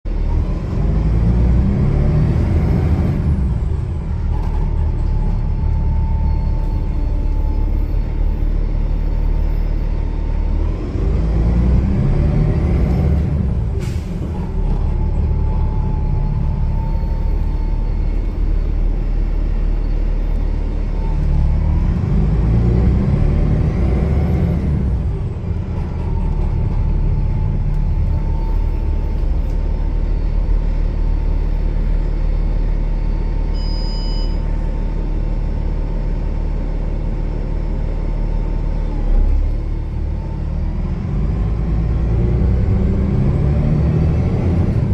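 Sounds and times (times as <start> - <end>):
bus diesel engine pulling up: 0.1 - 44.9.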